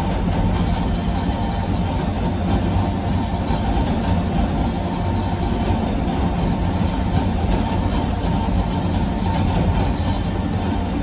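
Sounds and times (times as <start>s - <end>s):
faint steady whine: 0.0s - 11.0s
train wheels rumbling: 0.0s - 11.0s.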